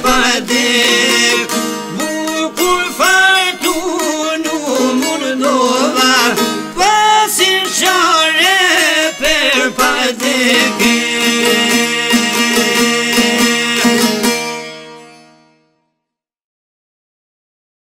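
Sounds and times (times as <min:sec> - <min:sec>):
plucked lutes: 0:00.0 - 0:15.7
ornamented folk melody: 0:00.0 - 0:16.2.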